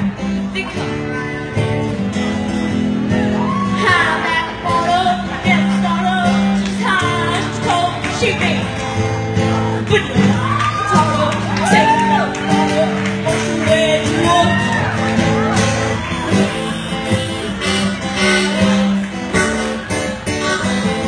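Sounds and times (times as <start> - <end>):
acoustic guitar strumming chords: 0.0 - 21.0
bending guitar lead melody: 0.0 - 21.0.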